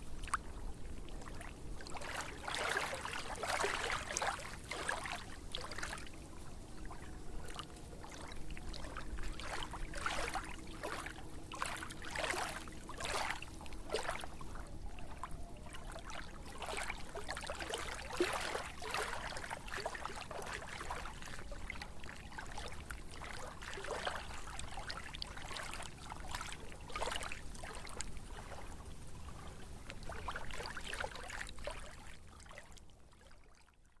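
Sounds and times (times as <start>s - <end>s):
steady water rush: 0.0s - 32.5s
water trickling and splashing: 0.0s - 33.8s.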